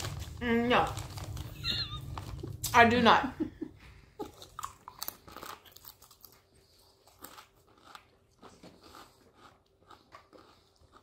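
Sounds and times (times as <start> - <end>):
chewing tortilla chips: 0.0 - 2.8, 4.2 - 11.0.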